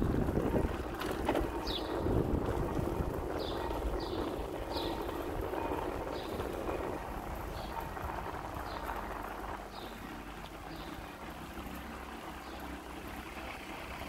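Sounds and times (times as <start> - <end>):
street noise low rumble: 0.0 - 14.0.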